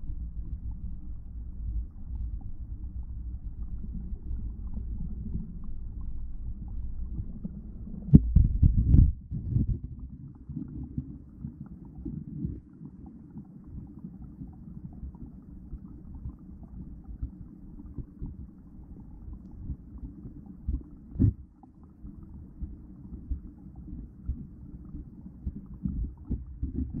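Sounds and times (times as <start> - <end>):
underwater rumble of water: 0.0 - 27.0.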